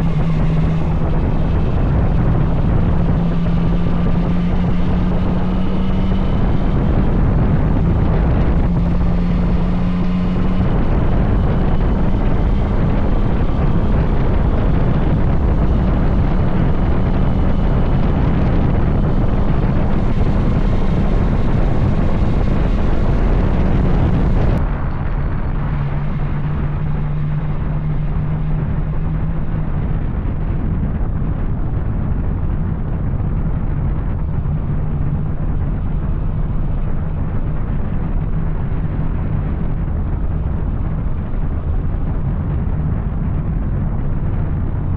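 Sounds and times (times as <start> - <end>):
motorcycle engine running: 0.0 - 44.9
wind on microphone: 0.0 - 44.9.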